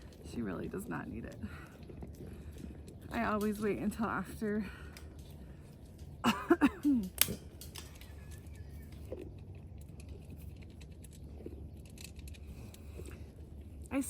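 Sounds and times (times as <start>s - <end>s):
goat crunching grain: 0.0s - 14.0s.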